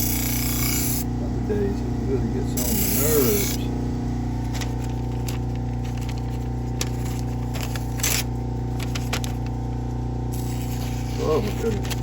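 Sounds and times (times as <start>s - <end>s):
electric motor running: 0.0s - 12.0s.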